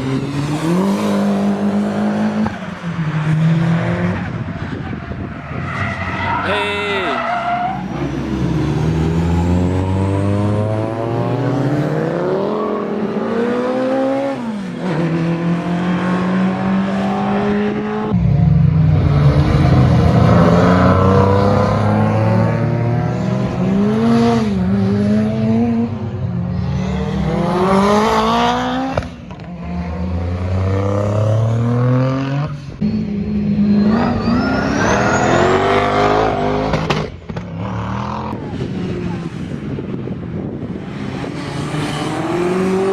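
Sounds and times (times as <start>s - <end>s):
car engines accelerating hard: 0.0s - 42.9s.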